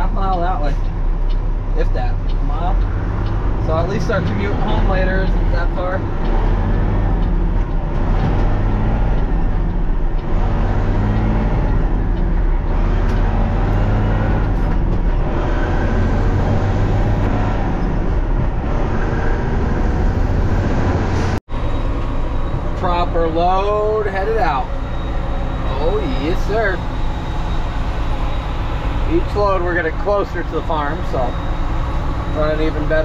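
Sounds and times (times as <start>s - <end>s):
farm vehicle engine running: 0.0s - 33.0s.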